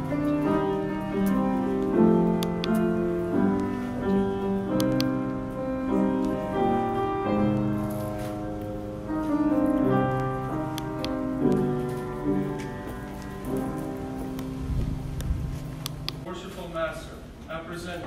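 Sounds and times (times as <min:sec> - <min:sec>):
slow keyboard music: 0:00.0 - 0:16.3.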